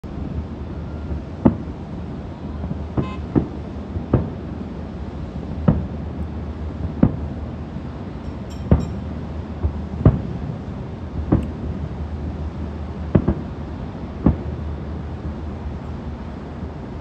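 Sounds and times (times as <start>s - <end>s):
steady low rumble: 0.0s - 17.0s
distant fireworks booming: 0.1s - 16.8s.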